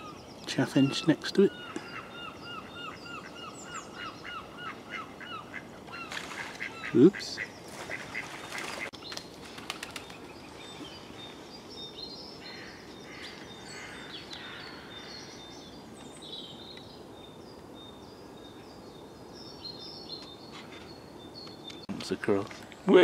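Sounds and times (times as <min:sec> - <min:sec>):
outdoor background noise: 0:00.0 - 0:23.0
songbirds chirping: 0:00.0 - 0:23.0.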